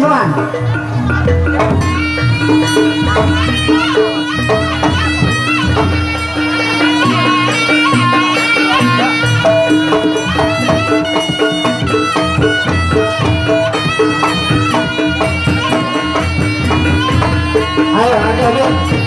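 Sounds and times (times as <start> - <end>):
drums: 0.0 - 19.0
reed wind instrument melody: 0.0 - 19.0
gongs: 0.4 - 19.0.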